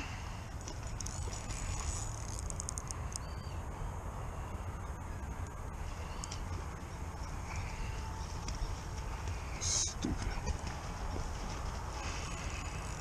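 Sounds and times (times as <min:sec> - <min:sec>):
birds calling faintly: 0:00.0 - 0:13.0.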